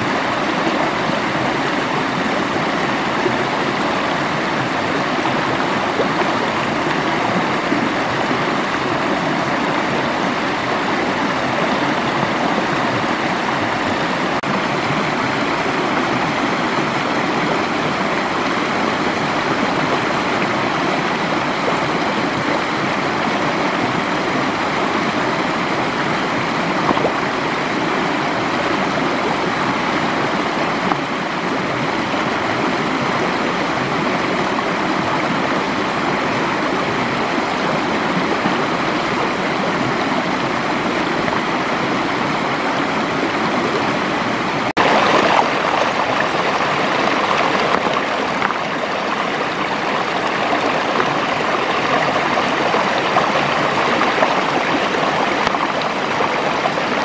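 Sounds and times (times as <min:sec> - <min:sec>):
stream water rushing and gurgling: 0:00.0 - 0:57.0.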